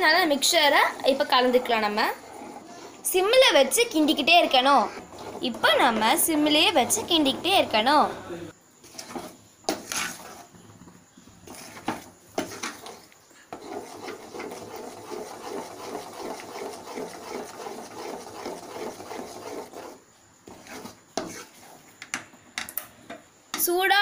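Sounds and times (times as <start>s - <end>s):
spatula scraping metal pan: 0.9s - 8.1s, 8.8s - 10.5s, 11.4s - 21.8s.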